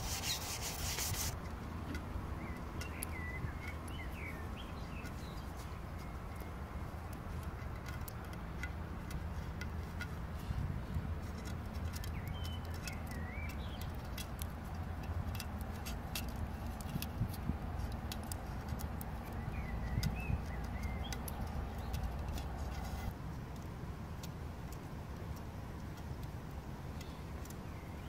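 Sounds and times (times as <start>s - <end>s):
birds chirping: 0.0s - 23.1s, 26.0s - 28.0s.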